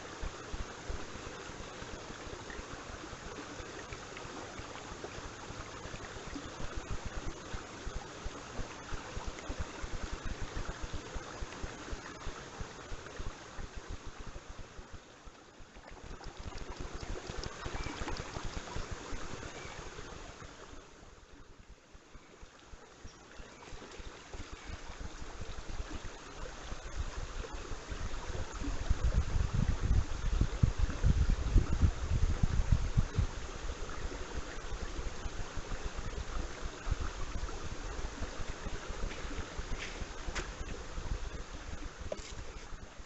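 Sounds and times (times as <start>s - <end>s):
creek water running: 0.0s - 43.0s.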